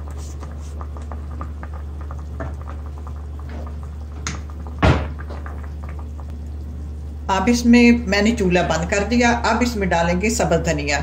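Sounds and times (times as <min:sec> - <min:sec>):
curry bubbling in a pot: 0:00.0 - 0:10.4.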